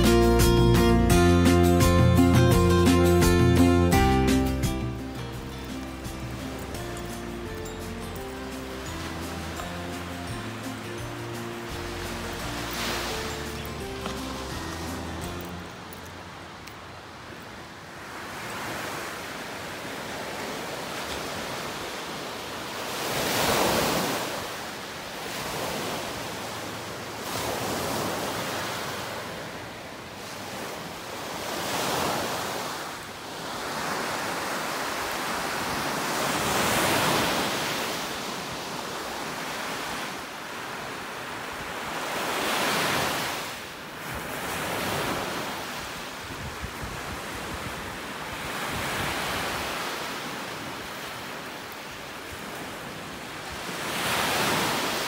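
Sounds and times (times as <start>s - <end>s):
waves breaking on sandy beach: 5.0s - 55.0s.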